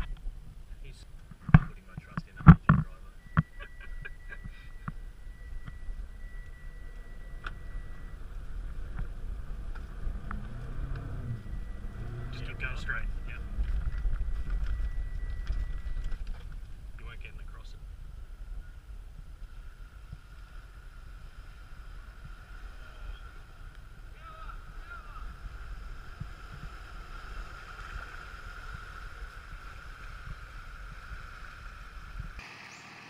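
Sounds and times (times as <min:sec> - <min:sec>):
wind buffeting microphone: 0:00.0 - 0:32.4
vehicle engine running: 0:00.0 - 0:33.0.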